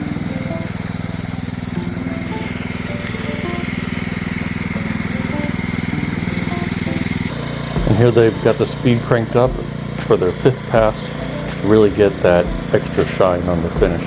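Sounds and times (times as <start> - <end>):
background music: 0.0 - 14.0
small petrol engine running: 0.0 - 14.0.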